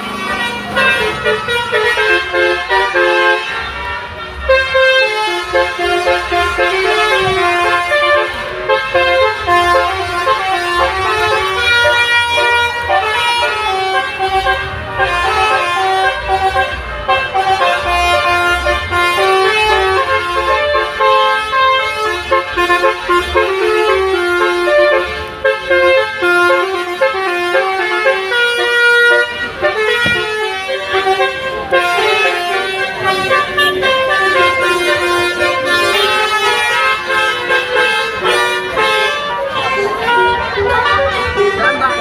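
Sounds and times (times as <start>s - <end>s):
multi-tone air horn melody: 0.0s - 42.0s.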